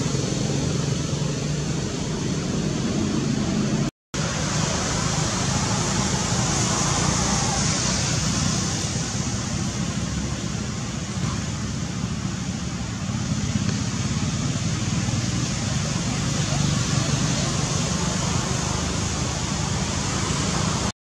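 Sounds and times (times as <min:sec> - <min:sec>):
outdoor background noise: 0:00.0 - 0:20.9.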